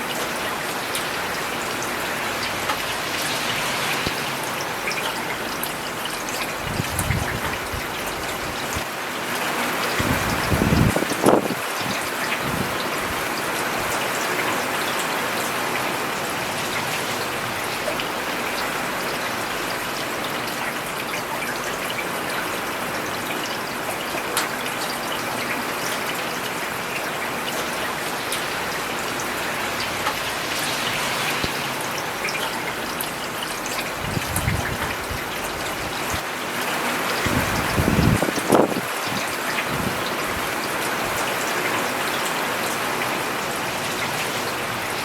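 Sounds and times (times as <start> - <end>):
rain falling on pavement: 0.0 - 45.0.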